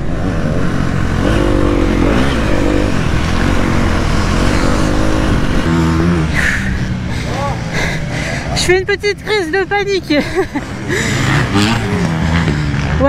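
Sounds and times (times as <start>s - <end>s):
motorcycle engine revving: 0.0s - 8.9s, 9.6s - 13.0s.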